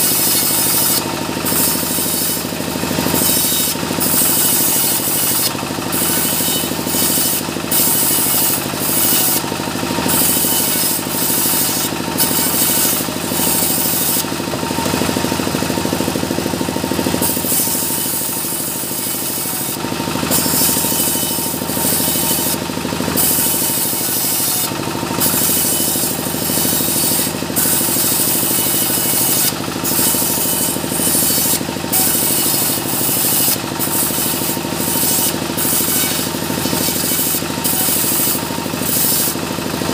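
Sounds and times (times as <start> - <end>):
saw blade cutting wood: 0.0 - 39.9
saw motor running: 0.0 - 39.9.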